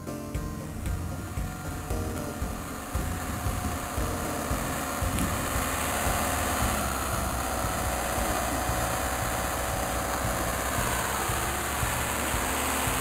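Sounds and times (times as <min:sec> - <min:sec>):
motorhome engine rumbling: 0:00.0 - 0:13.0.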